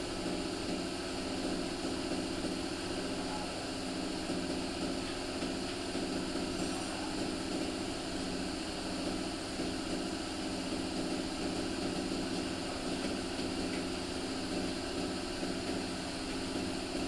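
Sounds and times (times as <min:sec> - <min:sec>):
machine drone with hum: 0:00.0 - 0:17.0.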